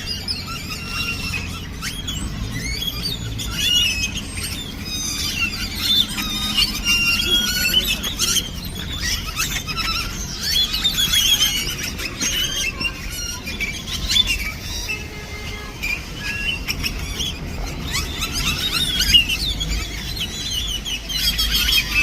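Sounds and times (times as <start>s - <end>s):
birds chirping and squeaking: 0.0s - 22.0s.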